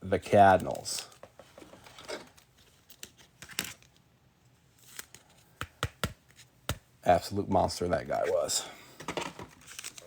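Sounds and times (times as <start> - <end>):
cards and wrappers rustling: 0.2 - 6.6, 8.1 - 10.0.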